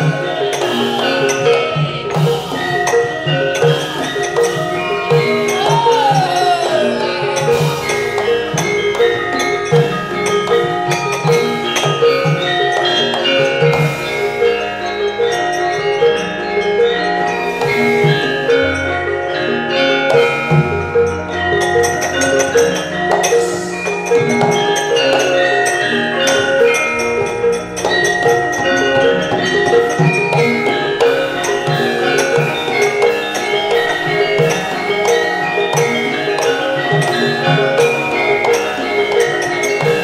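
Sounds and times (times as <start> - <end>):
gamelan ensemble playing: 0.0 - 40.0.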